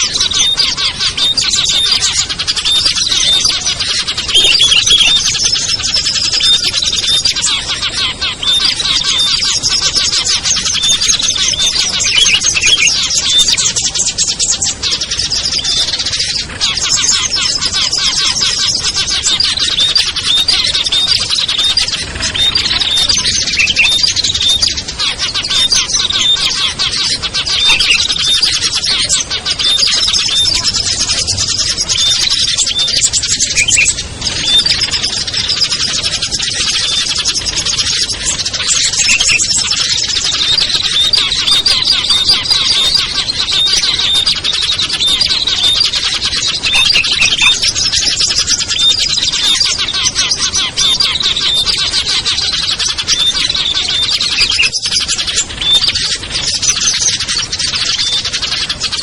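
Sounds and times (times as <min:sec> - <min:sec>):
clear whistled bird notes: 0:00.0 - 0:59.0
songbirds chattering: 0:00.0 - 0:59.0.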